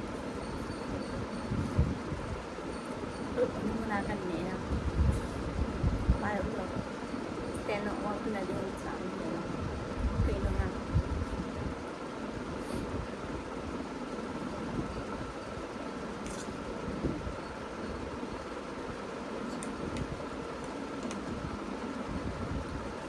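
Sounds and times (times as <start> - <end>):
mechanical hum and hiss: 0.0 - 23.0.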